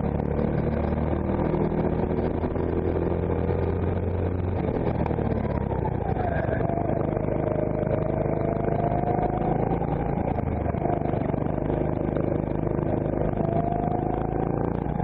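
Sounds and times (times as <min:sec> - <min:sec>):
kart engine running: 0:00.0 - 0:15.0.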